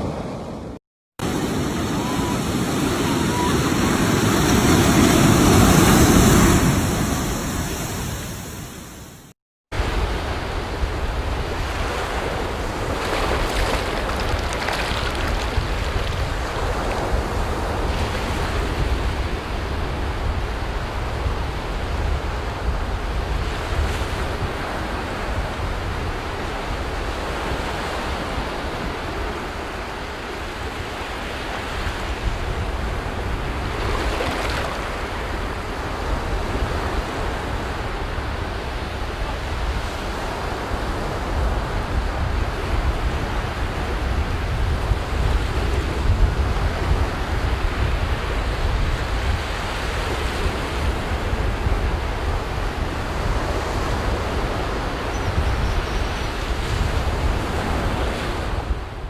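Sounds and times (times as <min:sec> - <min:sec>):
waves breaking on a beach: 0:00.0 - 0:59.0
wind rumble on microphone: 0:09.8 - 0:59.0.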